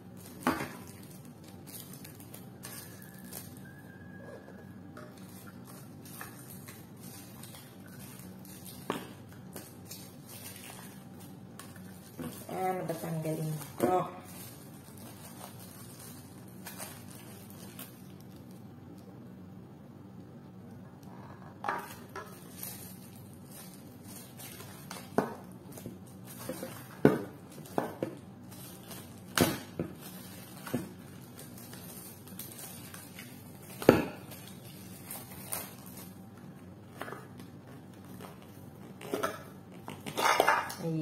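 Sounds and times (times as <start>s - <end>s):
plastic bags crinkling: 0.0s - 4.2s, 5.1s - 18.7s, 21.8s - 41.0s.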